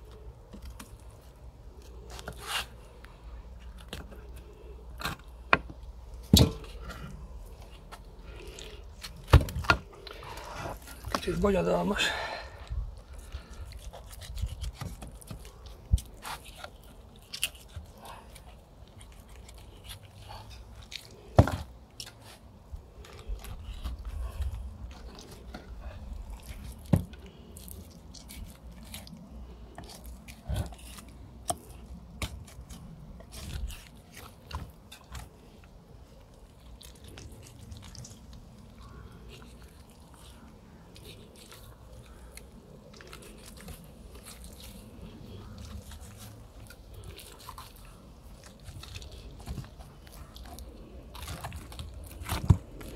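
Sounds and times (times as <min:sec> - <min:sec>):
knife scraping and crunching meat: 0:00.1 - 0:03.0, 0:13.0 - 0:52.9.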